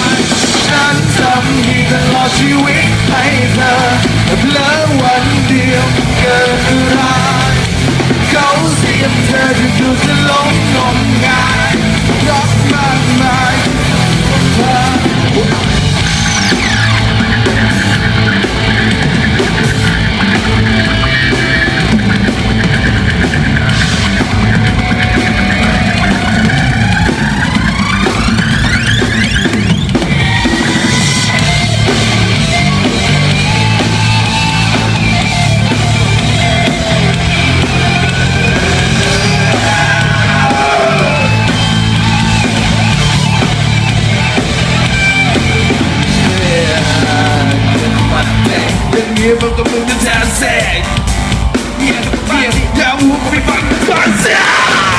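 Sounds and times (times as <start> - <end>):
distorted electric guitars: 0.0 - 54.9
rock band playing: 0.0 - 54.9.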